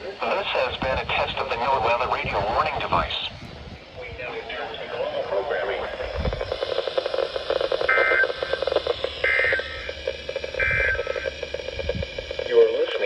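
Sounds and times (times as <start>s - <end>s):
digital data bursts: 0.0s - 13.0s
radio static: 0.0s - 13.0s.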